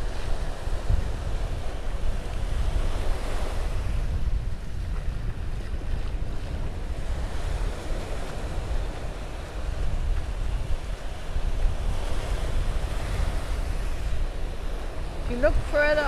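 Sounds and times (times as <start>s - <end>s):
small waves breaking on shore: 0.0s - 16.0s
wind buffeting microphone: 0.0s - 16.0s.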